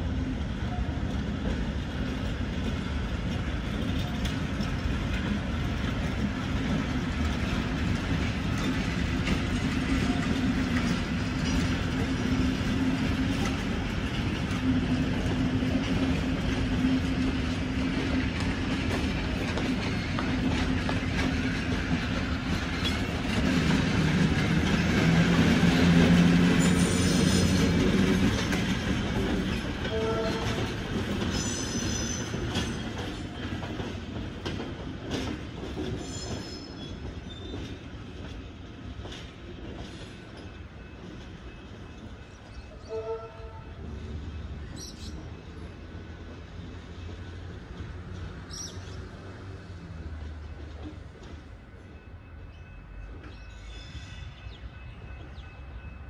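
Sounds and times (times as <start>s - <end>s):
train wheel clatter: 0.0s - 56.0s.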